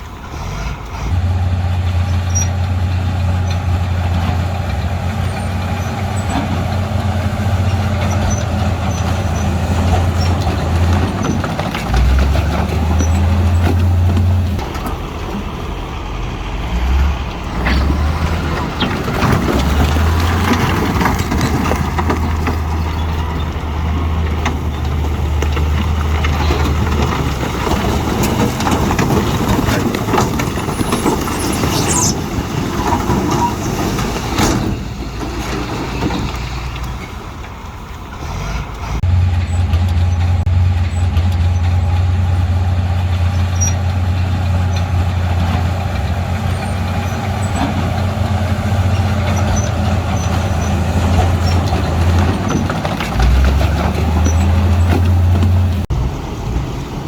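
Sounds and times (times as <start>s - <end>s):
diesel engine droning under load: 0.0s - 57.0s
machinery clanking and rattling: 0.0s - 57.0s.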